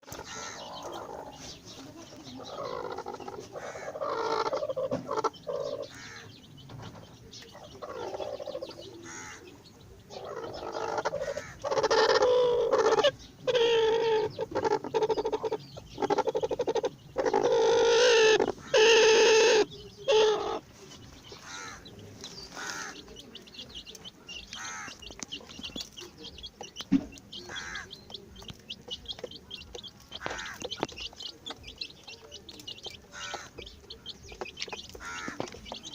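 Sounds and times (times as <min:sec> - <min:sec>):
chickens clucking: 0:00.0 - 0:35.9
chicks chirping: 0:00.0 - 0:35.9.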